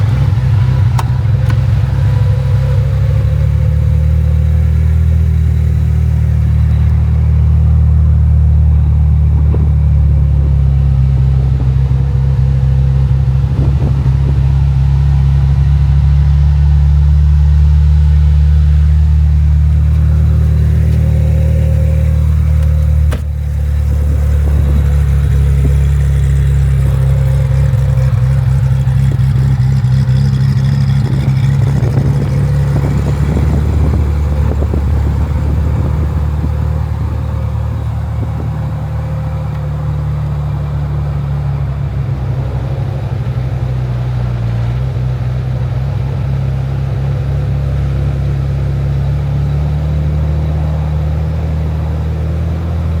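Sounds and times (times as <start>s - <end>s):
car engine running at low revs: 0.0s - 53.0s.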